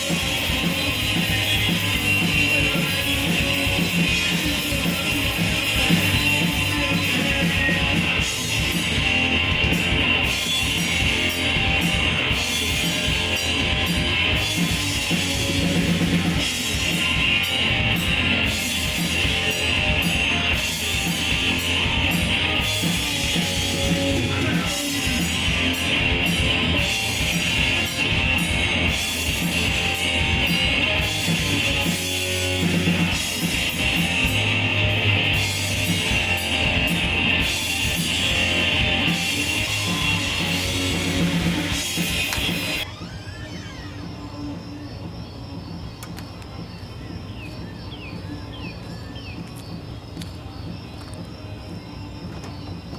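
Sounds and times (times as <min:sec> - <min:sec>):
loud rock music: 0:00.0 - 0:43.1, 0:43.8 - 0:52.9.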